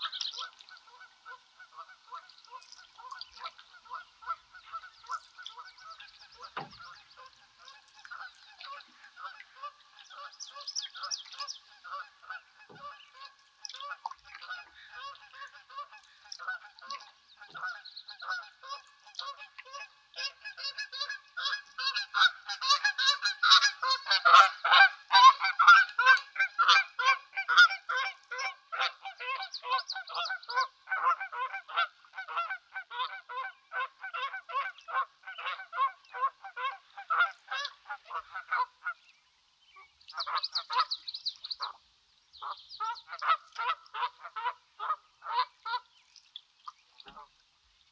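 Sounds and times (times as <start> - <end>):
geese honking: 0.0 - 39.0, 40.1 - 41.0, 42.4 - 45.9.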